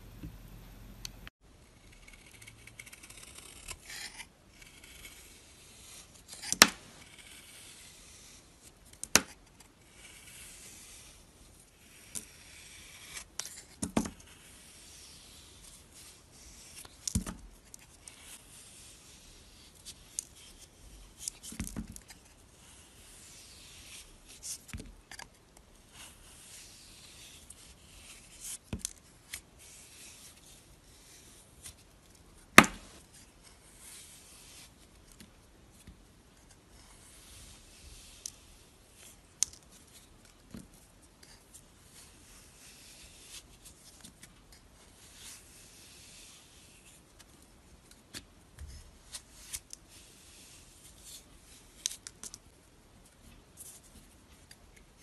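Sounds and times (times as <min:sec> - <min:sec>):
scraping a bar of soap: 0:01.6 - 0:35.3, 0:35.9 - 0:52.4.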